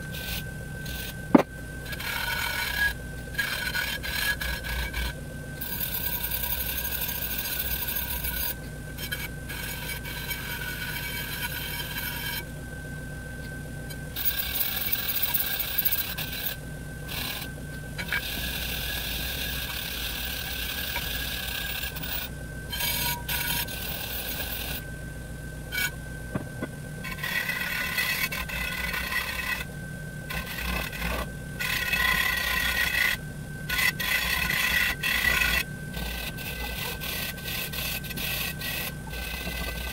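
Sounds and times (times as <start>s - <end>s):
bench grinder motor hum: 0.0s - 12.4s, 14.2s - 24.8s, 25.7s - 29.7s, 30.3s - 39.9s.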